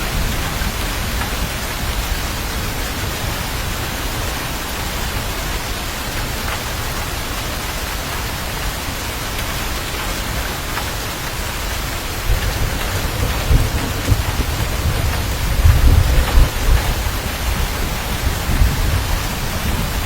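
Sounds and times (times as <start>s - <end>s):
thunder rumbling: 0.0s - 7.4s, 9.3s - 20.0s
heavy rainfall: 0.0s - 20.0s.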